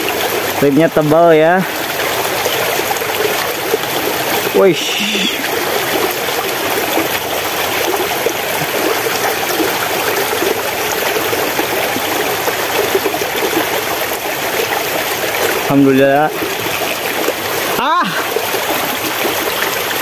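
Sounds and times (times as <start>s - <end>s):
stream trickling and babbling: 0.0s - 20.0s.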